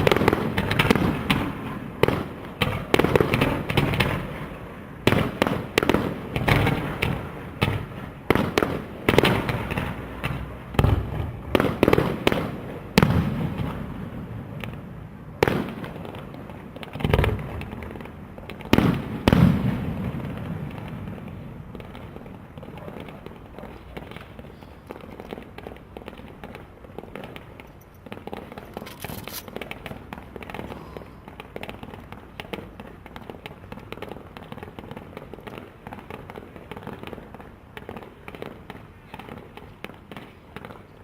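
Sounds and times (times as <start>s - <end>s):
fireworks bursting with loud bangs: 0.0s - 41.0s.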